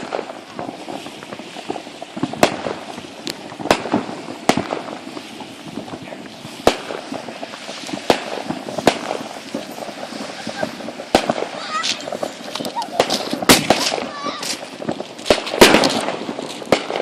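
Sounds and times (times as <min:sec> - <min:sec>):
crackle of small pops: 0:00.0 - 0:17.0
fireworks bangs: 0:00.0 - 0:17.0.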